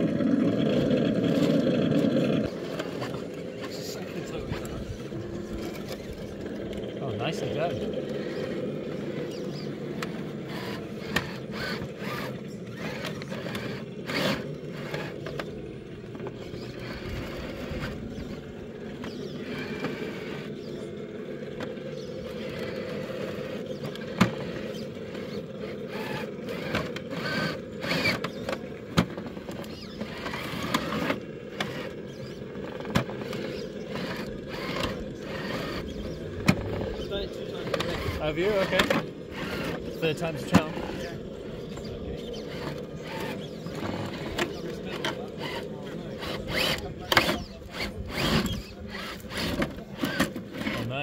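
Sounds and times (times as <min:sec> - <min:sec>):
electric motor and gears whining: 0:00.0 - 0:51.0.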